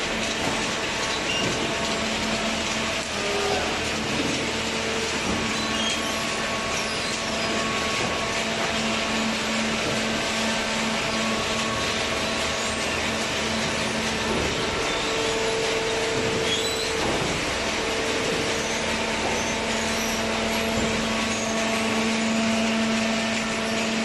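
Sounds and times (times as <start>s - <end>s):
baler machinery running: 0.0s - 24.0s.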